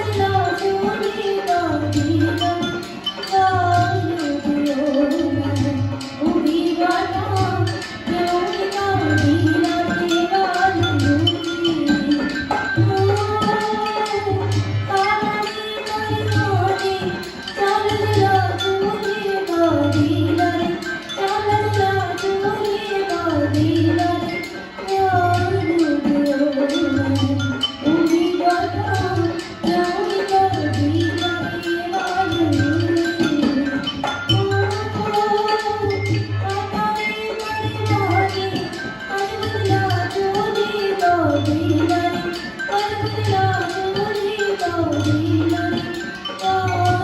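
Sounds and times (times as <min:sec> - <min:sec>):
drum beating steady rhythm: 0:00.0 - 0:47.0
winding held melody: 0:00.0 - 0:47.0.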